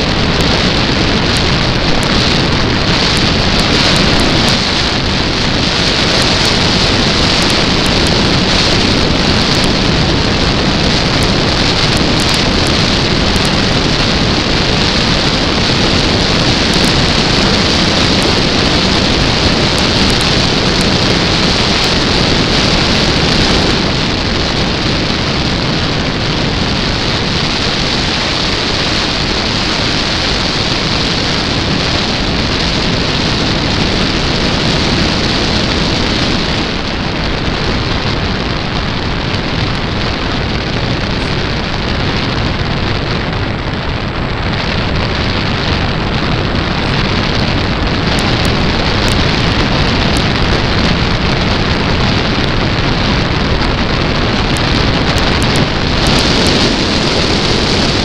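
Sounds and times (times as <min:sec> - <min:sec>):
faint crackles: 0:00.0 - 0:58.0
wind buffeting microphone: 0:00.0 - 0:58.0.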